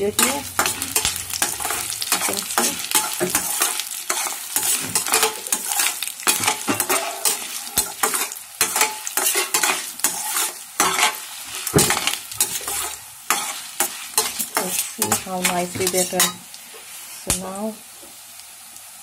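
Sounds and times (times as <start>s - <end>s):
spices sizzling in hot oil: 0.0s - 19.0s
utensil scraping a pan: 0.1s - 16.4s.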